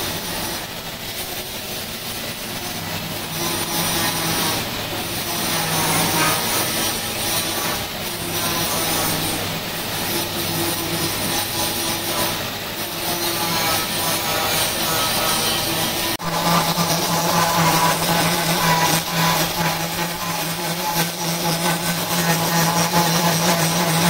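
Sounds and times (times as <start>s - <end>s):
buffing wheel rasping on metal: 2.0s - 24.0s.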